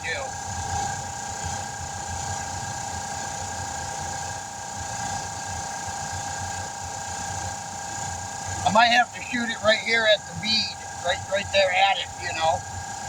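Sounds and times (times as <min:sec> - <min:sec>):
motor running: 0:00.0 - 0:13.0.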